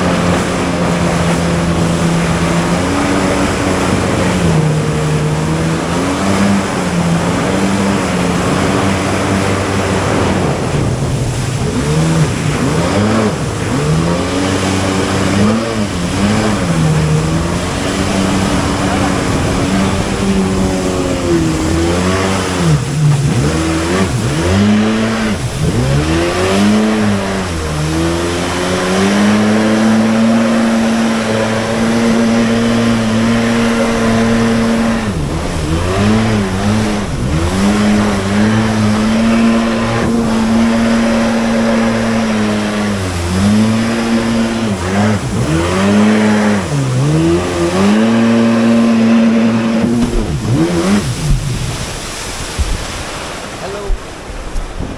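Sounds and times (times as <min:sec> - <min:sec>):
jet ski engine running: 0:00.0 - 0:54.9.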